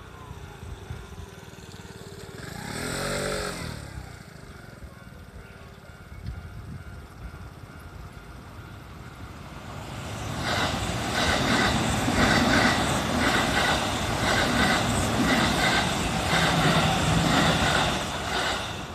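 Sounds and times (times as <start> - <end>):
train rumbling past: 0.0 - 18.9
wheels clattering on rails: 1.1 - 18.9.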